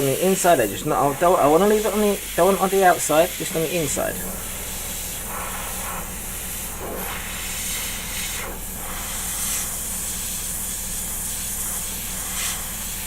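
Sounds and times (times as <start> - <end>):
airbrush air hiss: 0.0 - 13.0
compressor hum: 0.0 - 13.0.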